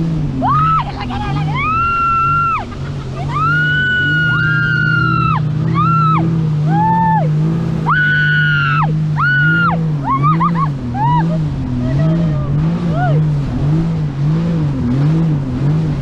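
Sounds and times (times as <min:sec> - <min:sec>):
jet ski engine running: 0:00.0 - 0:16.0.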